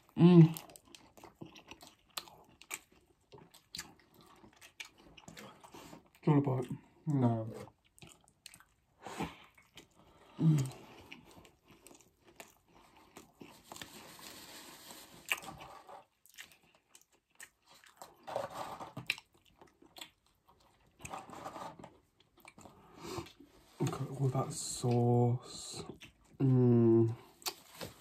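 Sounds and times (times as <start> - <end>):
biting and chewing a burger: 0.0 - 7.0, 7.6 - 23.5.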